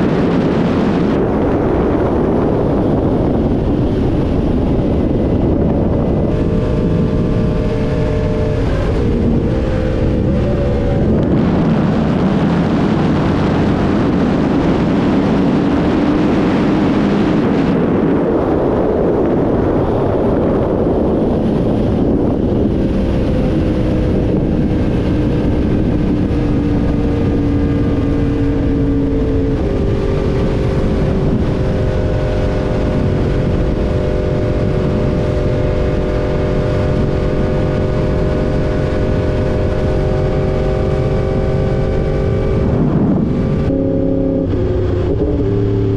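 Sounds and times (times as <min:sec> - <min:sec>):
motorcycle engine cruising: 0:00.0 - 0:45.9
wind rushing over microphone: 0:00.0 - 0:45.9.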